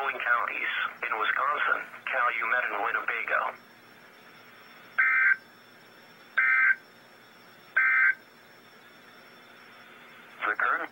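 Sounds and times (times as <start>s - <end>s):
warbling two-tone digital data bursts: 0.0s - 10.9s.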